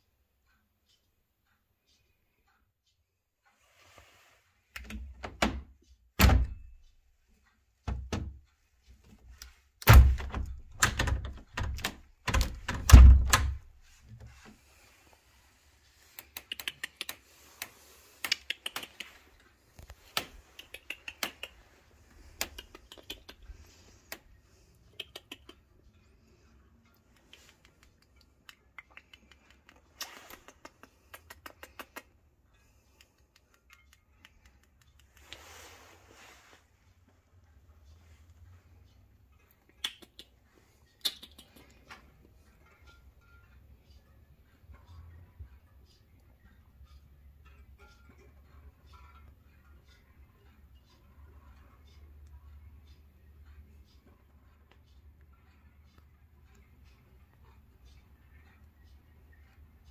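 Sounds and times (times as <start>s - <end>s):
light clicks and ticks: 4.7s - 35.6s, 36.9s - 59.9s.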